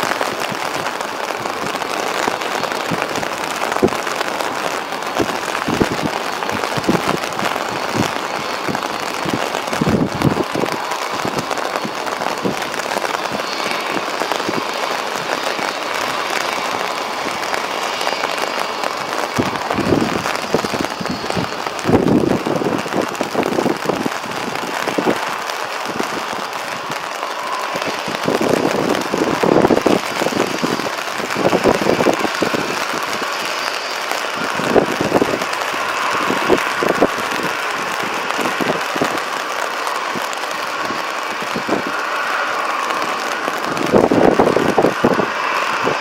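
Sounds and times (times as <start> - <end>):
heavy rain pattering: 0.0 - 46.0
jet engines whining: 0.0 - 46.0
wind gusts buffeting microphone: 0.0 - 46.0.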